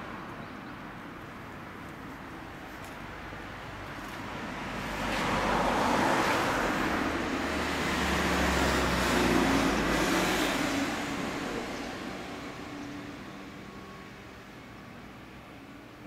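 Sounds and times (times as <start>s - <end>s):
vehicle tyre and engine noise: 0.0s - 16.0s.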